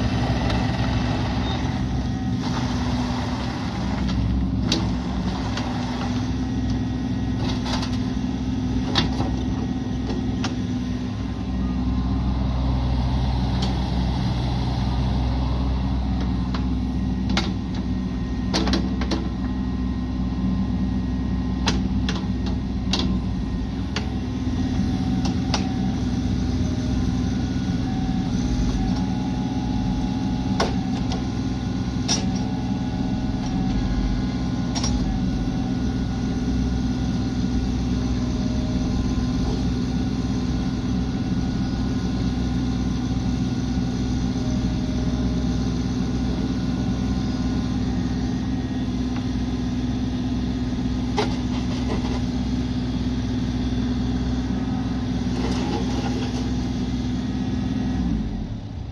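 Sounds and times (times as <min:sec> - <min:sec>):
mini excavator diesel engine: 0:00.0 - 0:58.9.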